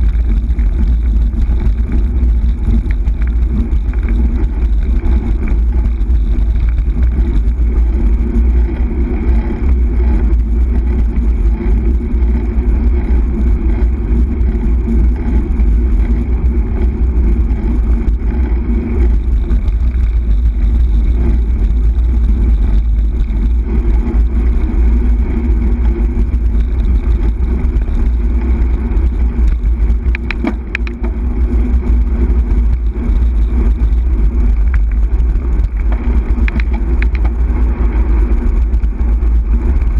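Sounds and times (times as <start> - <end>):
tyre and road noise: 0.0 - 39.9
wind buffeting microphone: 0.0 - 39.9.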